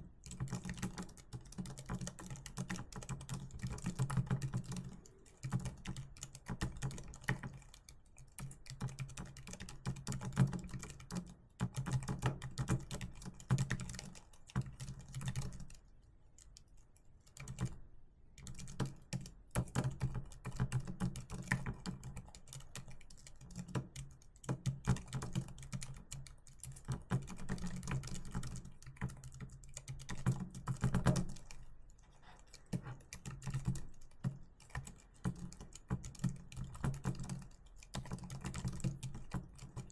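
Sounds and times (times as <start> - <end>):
typing on a keyboard: 0.0 - 17.8, 18.4 - 39.9.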